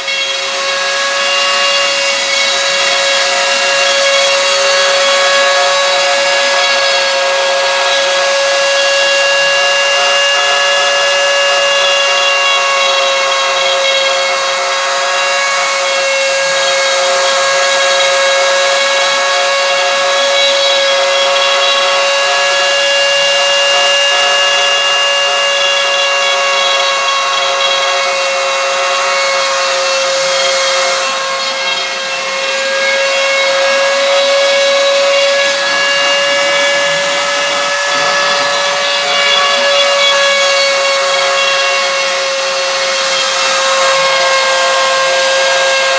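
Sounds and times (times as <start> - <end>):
machine high whine: 0.0 - 45.9
rasping hiss: 0.0 - 45.9.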